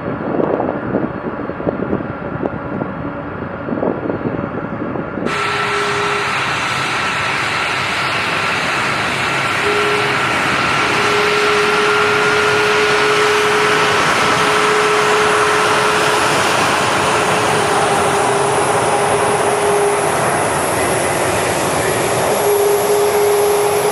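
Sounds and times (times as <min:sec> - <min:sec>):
jet engines rushing and whining: 0:00.0 - 0:23.9.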